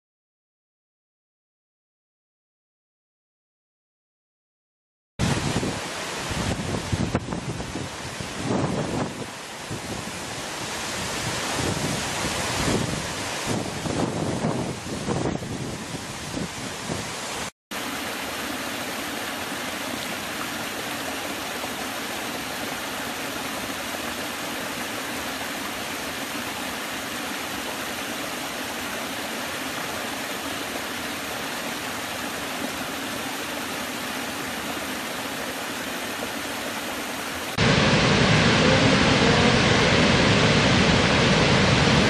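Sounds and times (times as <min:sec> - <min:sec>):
large waterfall roaring: 0:05.2 - 0:42.0
small waterfall rushing: 0:05.2 - 0:42.0.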